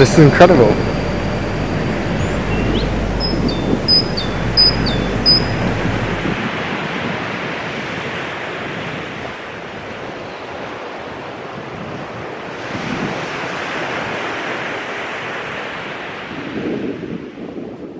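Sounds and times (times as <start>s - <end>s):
ocean waves breaking on beach: 0.0s - 17.4s.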